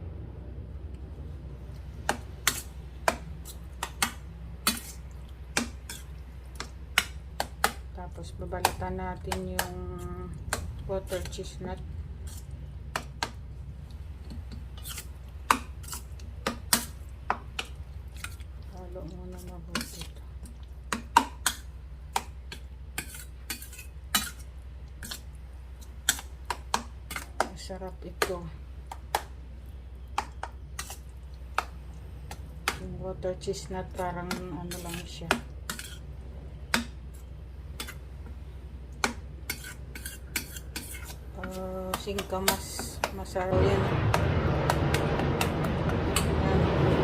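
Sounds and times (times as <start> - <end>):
utensil stirring meat in bowl: 1.7 - 43.5.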